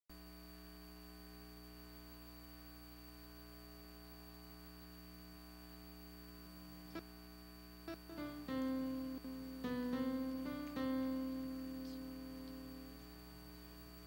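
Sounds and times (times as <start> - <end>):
electrical hum with hiss: 0.1 - 14.0.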